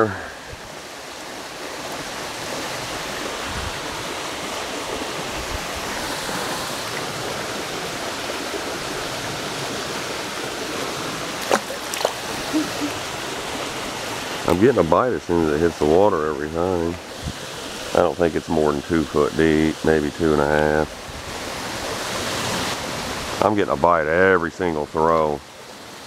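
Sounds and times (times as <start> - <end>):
water rushing through culvert: 0.0 - 26.0.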